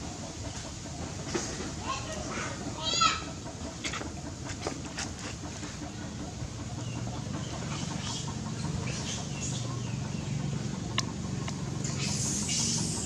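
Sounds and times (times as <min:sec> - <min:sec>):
chickens clucking: 0:00.1 - 0:13.0.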